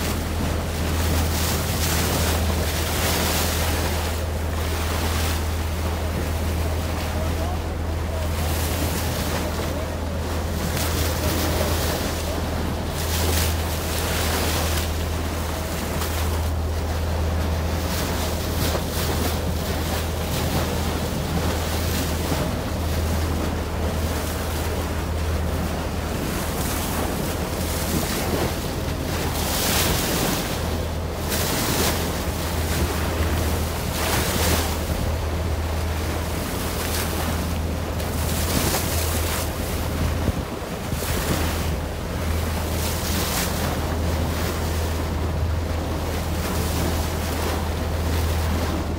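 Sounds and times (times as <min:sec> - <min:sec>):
boat engine hum: 0:00.0 - 0:48.9
water rushing along hull: 0:00.0 - 0:48.9
wind buffeting microphone: 0:00.0 - 0:48.9.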